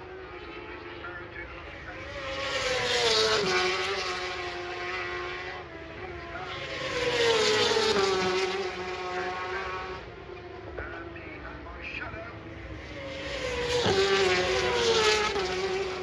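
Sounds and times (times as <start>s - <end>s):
motorbikes passing at speed: 0.0s - 16.0s.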